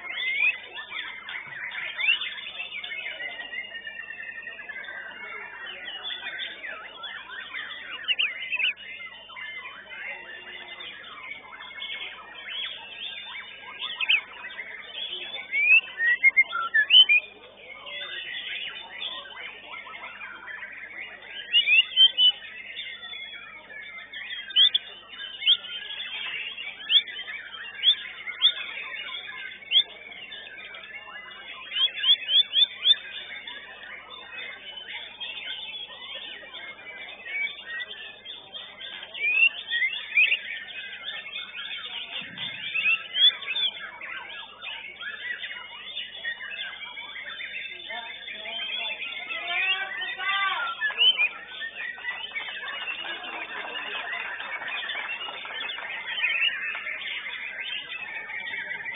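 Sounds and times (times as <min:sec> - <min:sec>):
birds singing: 0:00.0 - 0:58.9.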